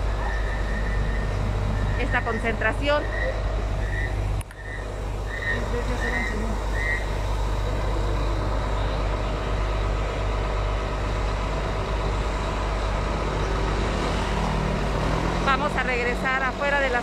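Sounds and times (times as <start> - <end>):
bus engines idling: 0.0 - 17.0.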